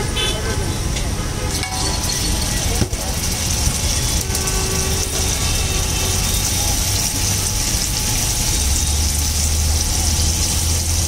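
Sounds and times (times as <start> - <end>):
butter sizzling on hot griddle: 1.6 - 11.0.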